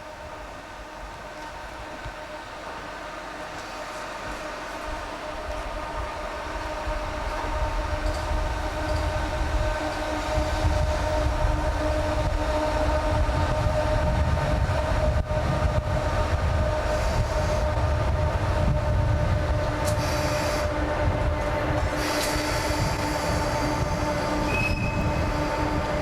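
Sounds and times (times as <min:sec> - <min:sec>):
locomotive humming: 0:00.0 - 0:26.0.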